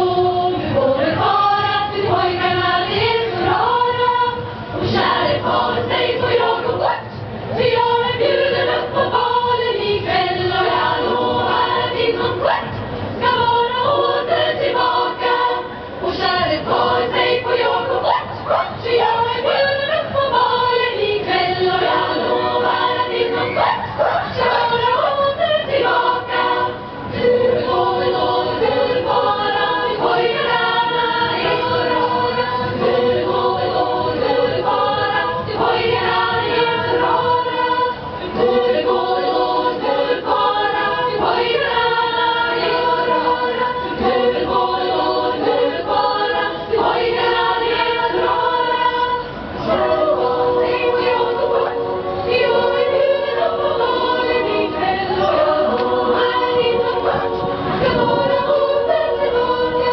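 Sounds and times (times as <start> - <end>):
women's choir singing in harmony: 0.0 - 59.9.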